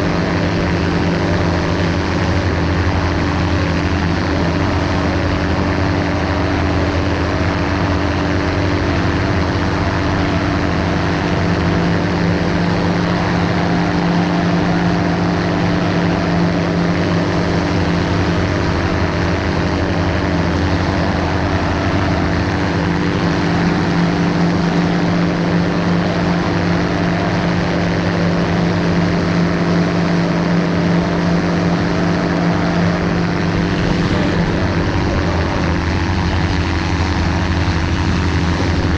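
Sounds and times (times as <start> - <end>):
aircraft engine and propeller: 0.0 - 38.9.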